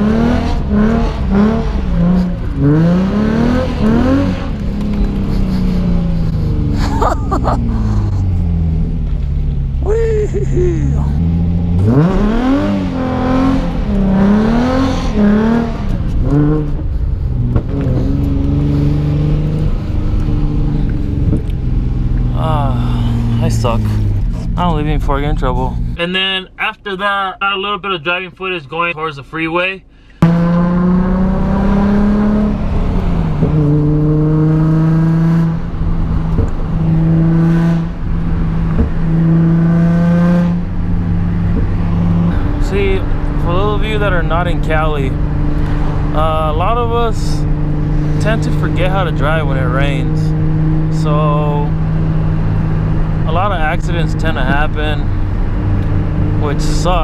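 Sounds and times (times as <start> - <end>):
car engine revving: 0.0 - 26.0, 30.2 - 57.0.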